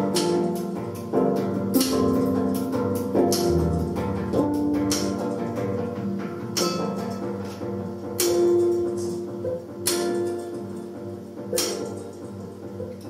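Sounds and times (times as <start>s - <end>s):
layered held notes: 0.0s - 13.0s
ringing percussive strikes: 0.0s - 13.0s.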